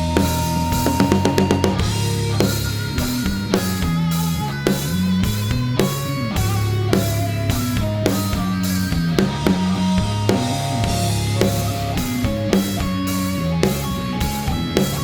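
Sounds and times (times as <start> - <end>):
bass and electric guitar: 0.0 - 15.0
drum kit beat: 0.0 - 15.0.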